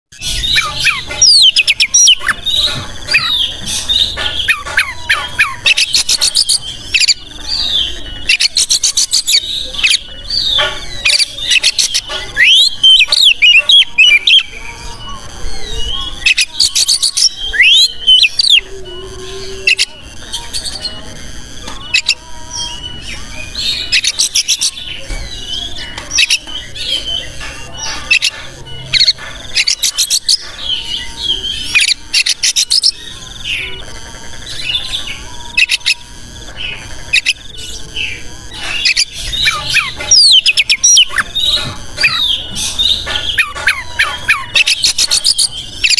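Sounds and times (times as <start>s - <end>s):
songbird singing: 0.1s - 45.9s.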